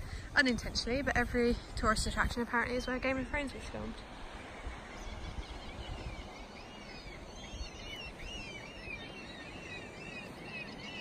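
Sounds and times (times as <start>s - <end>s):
small birds chirping: 0.0s - 11.0s
wind rumbling on microphone: 0.0s - 11.0s.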